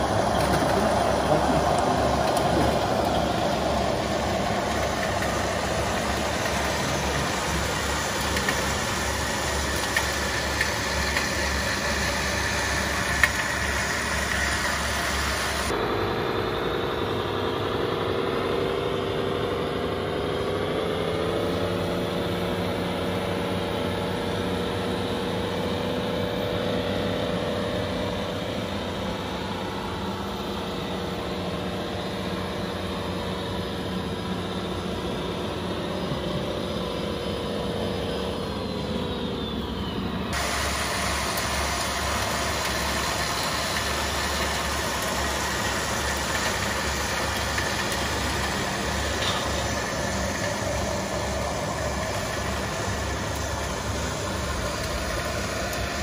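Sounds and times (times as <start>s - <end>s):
model truck motor whine: 0.0s - 56.0s.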